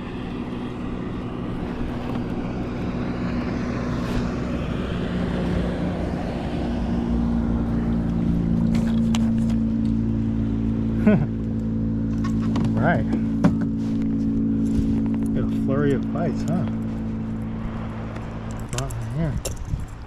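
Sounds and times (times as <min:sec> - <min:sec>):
motor engine droning: 0:00.0 - 0:20.0.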